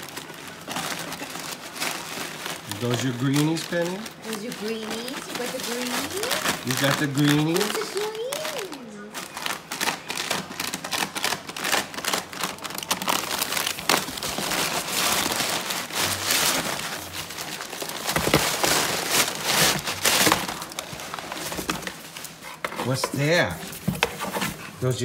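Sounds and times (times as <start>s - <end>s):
packing paper crinkling: 0.0s - 25.0s.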